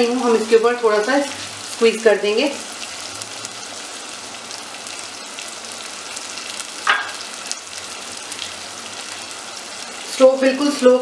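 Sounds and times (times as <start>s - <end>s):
curry sizzling and bubbling in oil: 0.0s - 11.0s.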